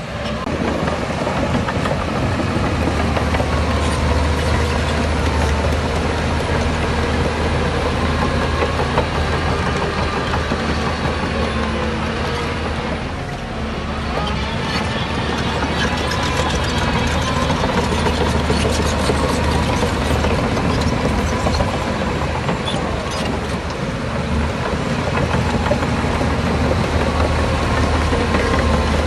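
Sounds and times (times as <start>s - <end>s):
diesel machinery engine hum: 0.0s - 29.0s.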